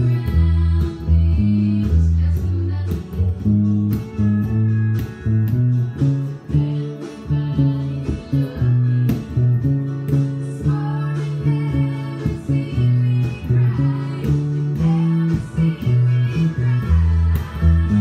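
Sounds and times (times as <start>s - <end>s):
band music with steady beat: 0.0s - 18.0s
electric bass playing single notes: 0.0s - 18.0s.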